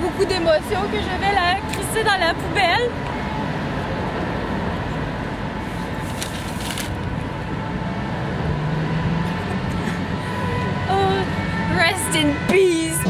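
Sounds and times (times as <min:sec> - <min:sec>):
street traffic: 0:00.0 - 0:13.0
vehicle engine hum: 0:00.0 - 0:13.0.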